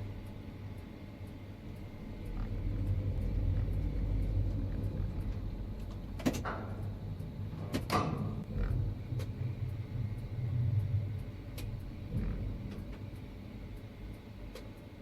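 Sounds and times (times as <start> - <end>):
tower crane rumble from cab: 0.0 - 15.0.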